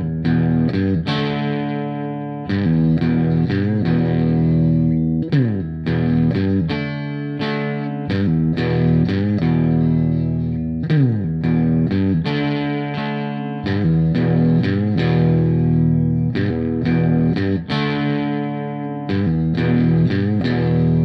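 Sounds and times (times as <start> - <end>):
bass: 0.0 - 1.8, 2.4 - 21.0
distorted electric guitar chords: 0.0 - 21.0.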